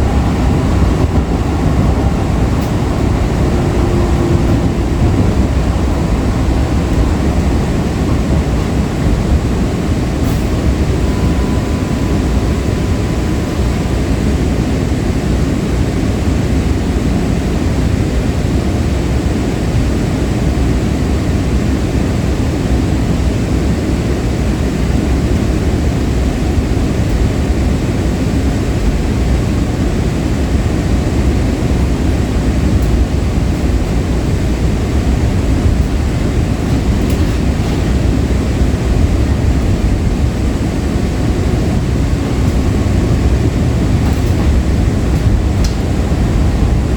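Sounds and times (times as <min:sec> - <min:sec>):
light rail car running on track: 0:00.0 - 0:46.9.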